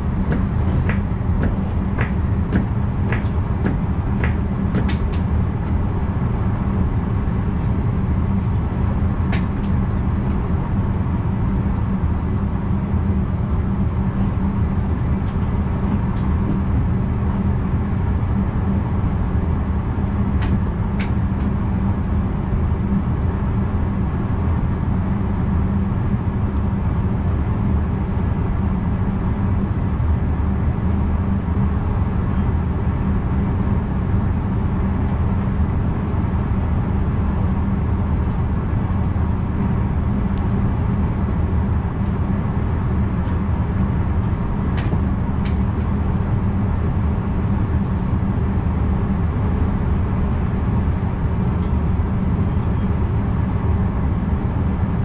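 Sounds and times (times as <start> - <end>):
train cab running rumble: 0.0 - 55.0.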